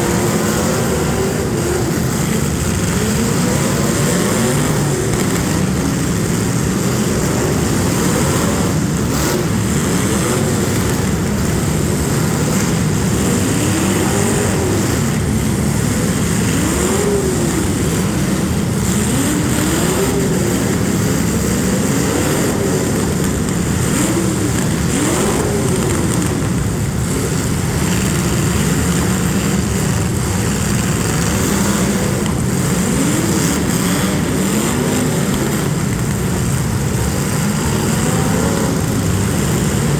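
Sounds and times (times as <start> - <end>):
car engines revving: 0.0 - 39.9
din of engines running: 0.0 - 39.9.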